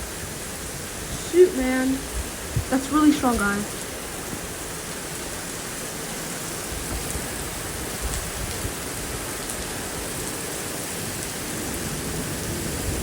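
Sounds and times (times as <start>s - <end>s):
heavy rain pouring: 0.0s - 13.0s
wind rumbling on microphone: 0.0s - 13.0s.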